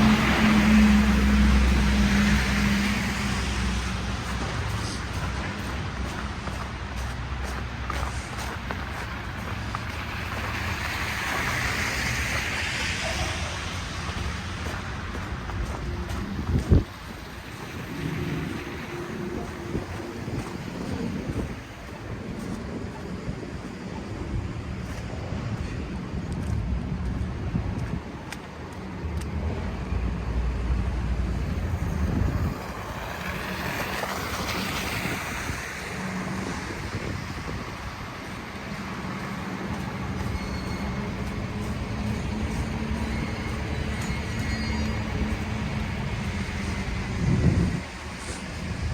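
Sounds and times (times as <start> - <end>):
car tyres hissing on snow: 0.0 - 23.6, 31.6 - 48.9
low rumble of city traffic: 0.0 - 48.9.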